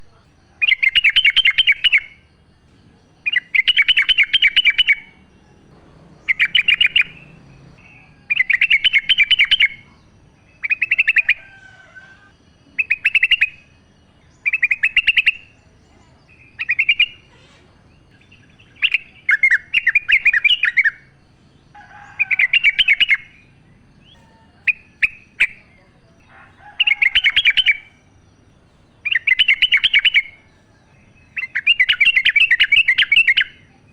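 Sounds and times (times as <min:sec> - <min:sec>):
bird chattering song: 0:00.0 - 0:33.9.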